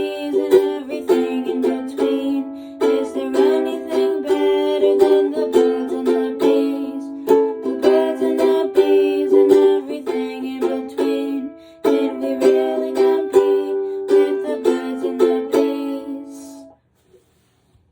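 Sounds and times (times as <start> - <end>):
ukulele strumming chords: 0.0 - 16.7.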